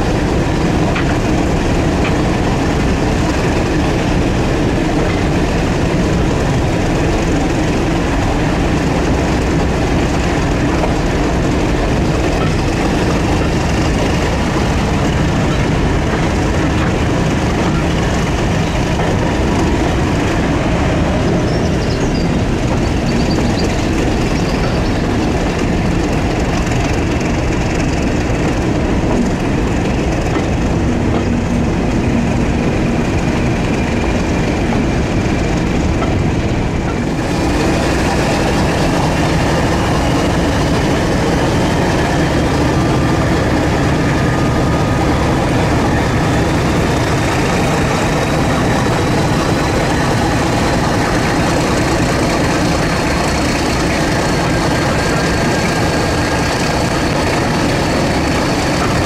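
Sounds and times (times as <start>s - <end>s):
diesel locomotive engine drone: 0.0s - 59.0s
train wheels clattering on rails: 0.0s - 59.0s.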